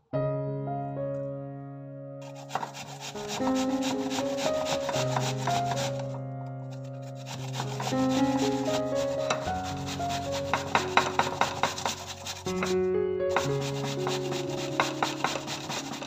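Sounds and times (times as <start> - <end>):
soft background music: 0.2 - 16.0
apple grated on metal grater: 2.2 - 16.0.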